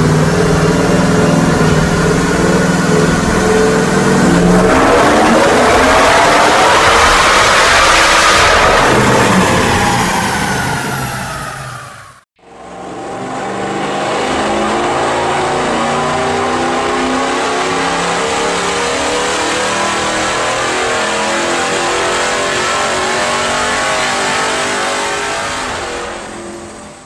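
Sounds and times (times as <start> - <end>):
engine running hard on dynamometer: 0.0 - 26.8.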